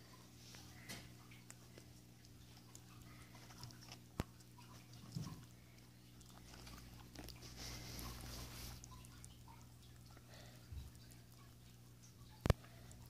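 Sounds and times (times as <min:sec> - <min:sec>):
rabbit chewing: 0:00.0 - 0:13.0
steady low hum: 0:00.0 - 0:13.0.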